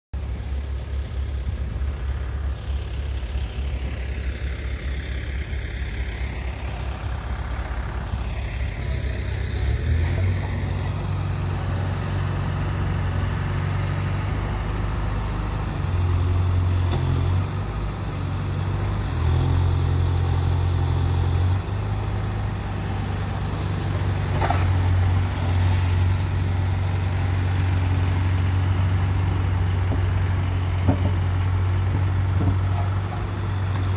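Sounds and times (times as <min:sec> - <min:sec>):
diesel machinery engines running: 0:00.2 - 0:33.9.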